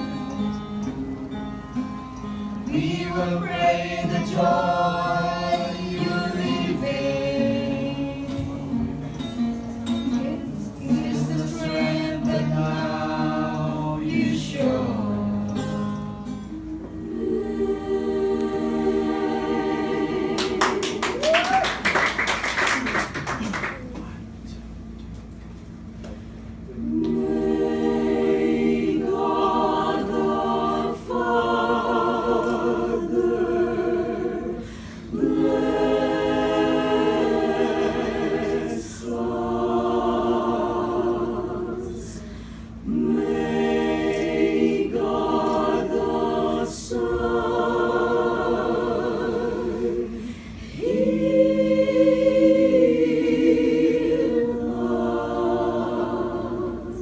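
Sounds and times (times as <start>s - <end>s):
choir singing: 0.0s - 1.4s, 2.5s - 21.2s, 26.7s - 57.0s.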